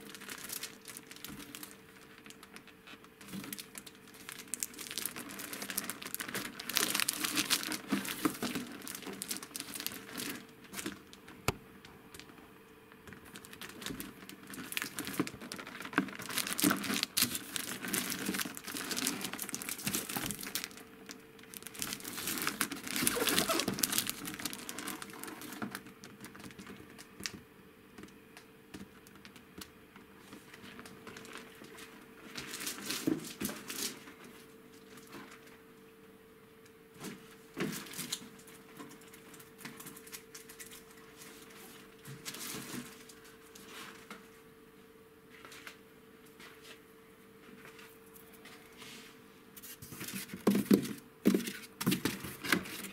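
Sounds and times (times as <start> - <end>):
plastic shrink-wrap crinkling: 0.0 - 12.4, 13.0 - 27.4, 28.8 - 29.5, 30.3 - 35.5, 37.0 - 44.1, 49.6 - 52.9
faint steady hum: 0.0 - 52.9.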